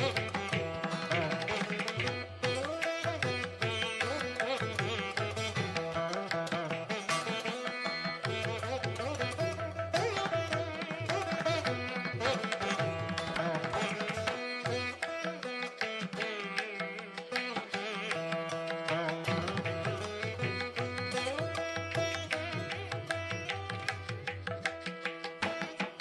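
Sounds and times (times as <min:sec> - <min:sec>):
plucked strings: 0:00.0 - 0:26.0
tabla-like drumming: 0:00.0 - 0:26.0.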